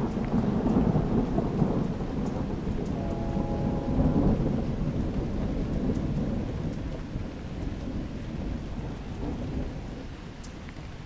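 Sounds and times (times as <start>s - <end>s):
low rolling thunder: 0.0s - 11.0s
rain: 0.0s - 11.0s
raindrop ticks: 0.0s - 11.0s.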